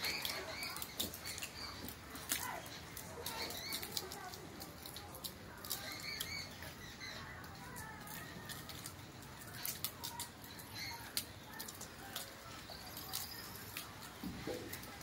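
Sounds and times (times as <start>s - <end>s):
birds chirping: 0.0s - 15.0s
outdoor background: 0.0s - 15.0s.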